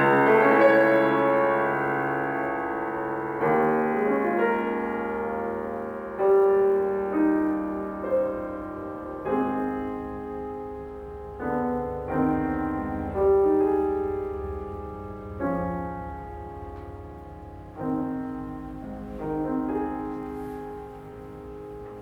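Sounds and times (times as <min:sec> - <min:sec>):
slow classical solo piano: 0:00.0 - 0:22.0.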